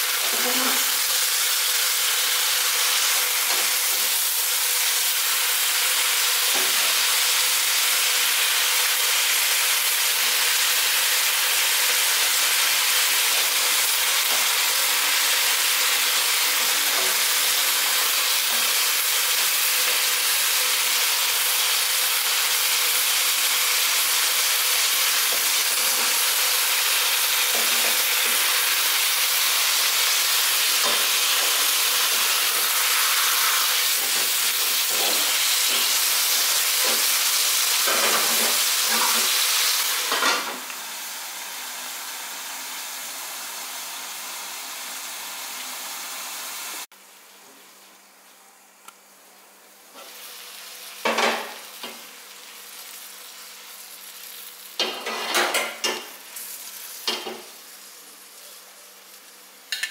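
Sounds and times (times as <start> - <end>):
chicken sizzling in oil: 0.0 - 46.9, 49.9 - 59.9.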